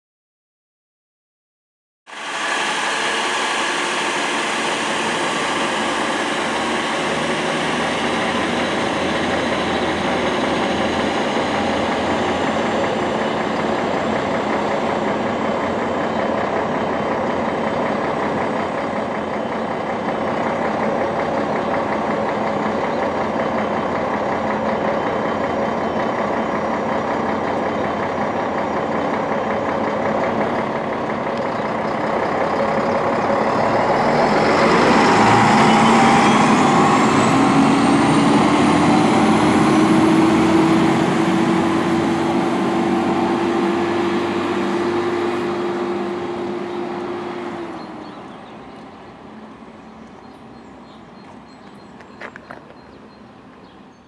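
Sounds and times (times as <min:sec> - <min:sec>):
train diesel engines running: 0:02.1 - 0:54.0.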